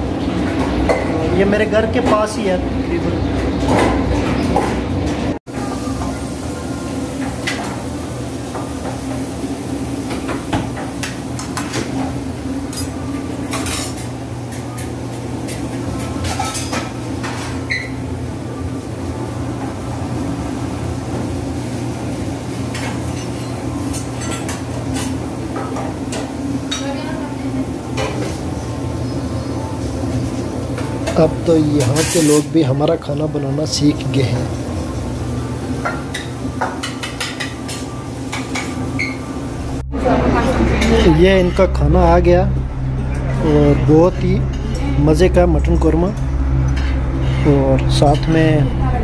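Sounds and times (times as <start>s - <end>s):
low machine hum: 0.0s - 49.0s.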